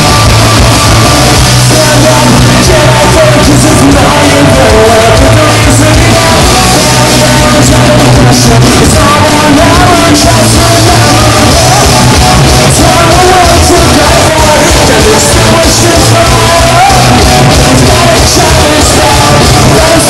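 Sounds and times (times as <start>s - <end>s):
rock band playing live: 0.0s - 20.0s
sung vocals: 1.2s - 20.0s.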